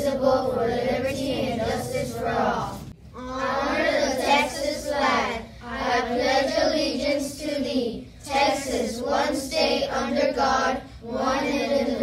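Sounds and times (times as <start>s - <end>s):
children reciting in unison: 0.0s - 12.0s.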